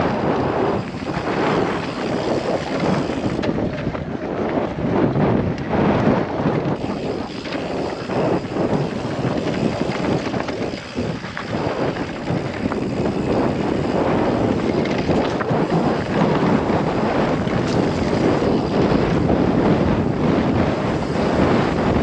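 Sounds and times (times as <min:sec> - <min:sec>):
bike knocks and rattles: 0:00.0 - 0:22.0
wind buffeting microphone: 0:00.0 - 0:22.0
tyres rolling over dirt: 0:00.8 - 0:04.9, 0:06.8 - 0:22.0.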